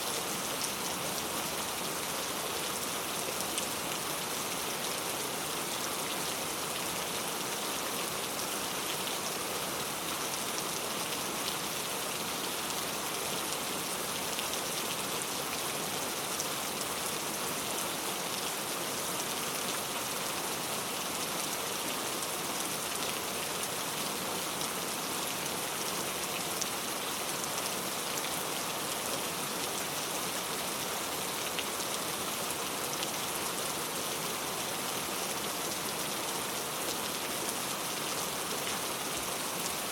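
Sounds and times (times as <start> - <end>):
very heavy rain: 0.0 - 39.9.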